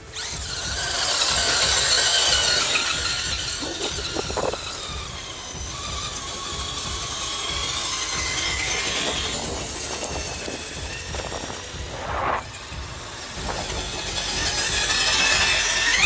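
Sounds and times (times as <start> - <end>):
electric motor whine: 0.0 - 16.0
steady rushing noise: 0.0 - 16.0
short knocks: 0.4 - 16.0.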